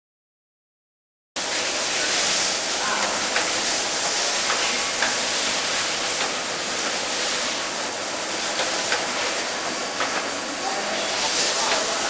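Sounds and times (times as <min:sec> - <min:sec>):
packaging machine hissing: 0:01.5 - 0:12.0.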